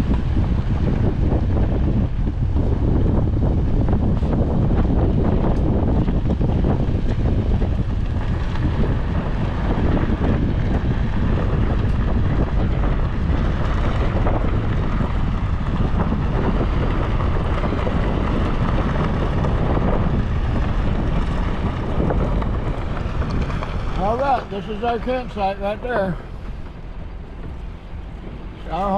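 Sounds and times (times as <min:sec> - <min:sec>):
road and engine noise: 0:00.0 - 0:28.9
wind buffeting microphone: 0:00.0 - 0:28.9.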